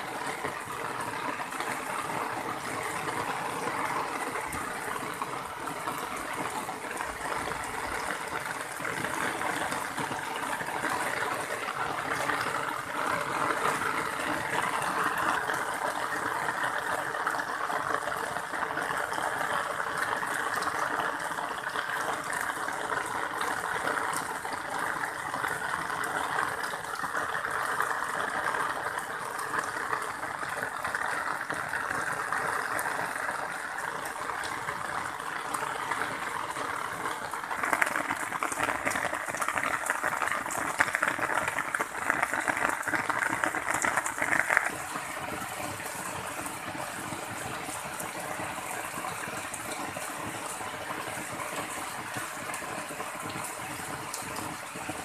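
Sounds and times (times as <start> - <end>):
heavy rain on asphalt: 0.0 - 55.0.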